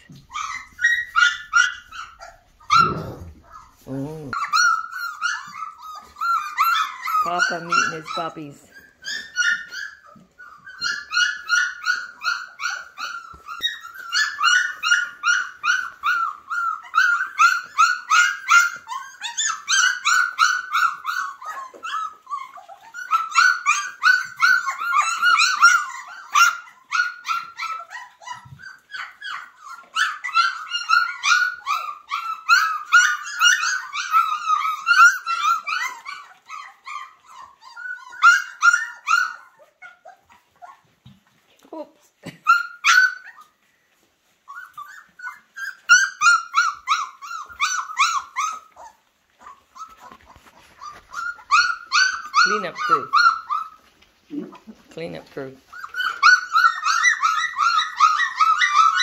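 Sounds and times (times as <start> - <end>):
puppies whining and yipping: 0.0 - 59.0.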